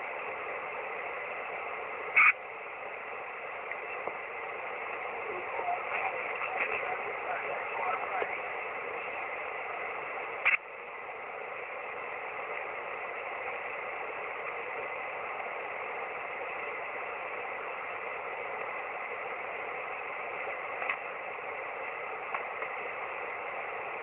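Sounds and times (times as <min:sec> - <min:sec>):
loud static burst: 0:00.0 - 0:24.0
radio receiver static hiss: 0:00.0 - 0:24.0.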